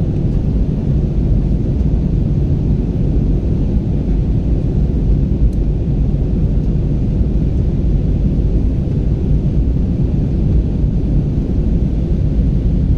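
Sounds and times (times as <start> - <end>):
aeroplane cabin engine rumble: 0.0 - 12.9.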